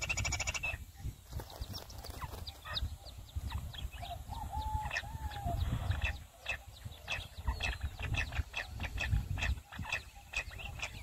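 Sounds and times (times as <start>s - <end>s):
quail chirping: 0.0s - 11.0s.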